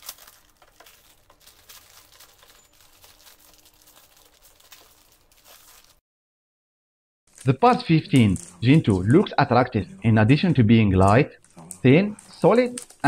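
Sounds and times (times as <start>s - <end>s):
plastic packaging crinkling: 0.0s - 6.0s, 7.3s - 13.0s.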